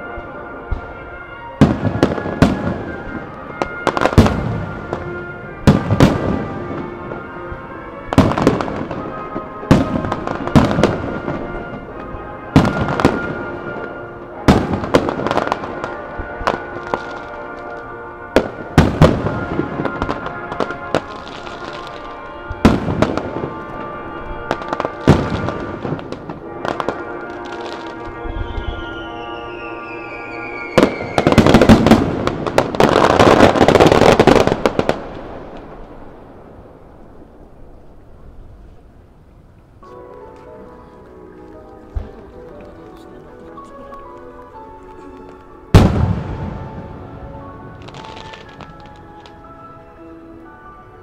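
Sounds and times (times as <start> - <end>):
music playing: 0.0 - 34.9, 39.8 - 51.0
fireworks bursting: 0.0 - 50.7.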